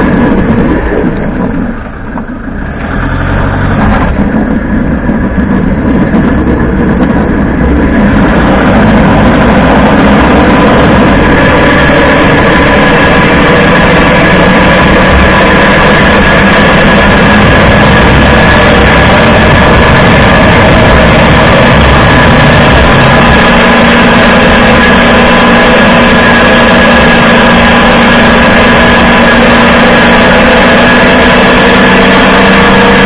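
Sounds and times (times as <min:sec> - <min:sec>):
drivetrain noise: 0:00.0 - 0:33.0
tyre road noise: 0:00.0 - 0:33.0.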